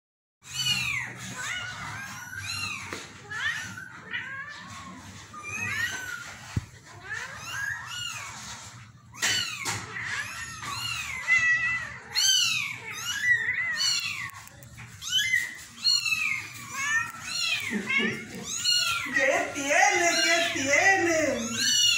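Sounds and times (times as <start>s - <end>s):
kittens meowing: 0.4s - 21.9s.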